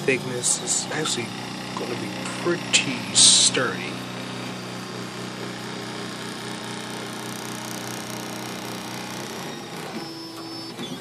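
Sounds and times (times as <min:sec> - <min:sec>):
printer stepper motors humming: 0:00.0 - 0:11.0.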